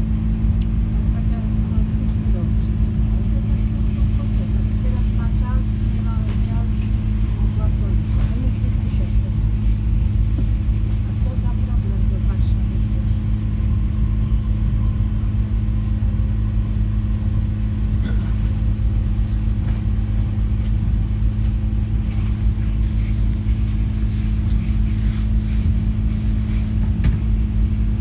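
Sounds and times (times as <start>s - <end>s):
train interior drone and rumble: 0.0s - 28.0s.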